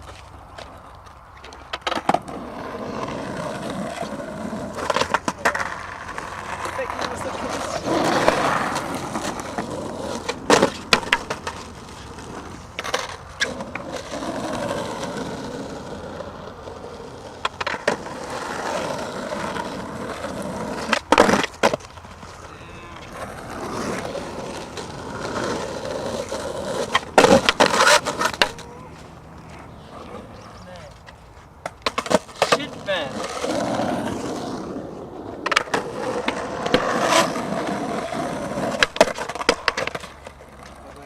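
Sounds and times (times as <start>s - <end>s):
skateboard clacks: 0.0s - 41.0s
skateboard wheels rolling on concrete: 0.0s - 41.0s.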